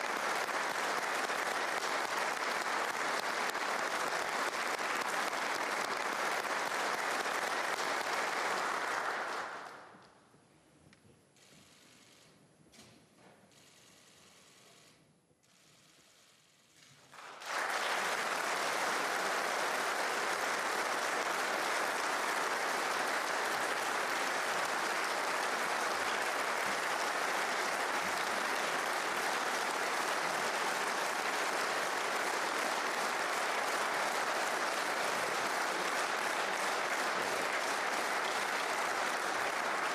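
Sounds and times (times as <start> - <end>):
large audience applauding: 0.0 - 10.0, 17.0 - 39.9.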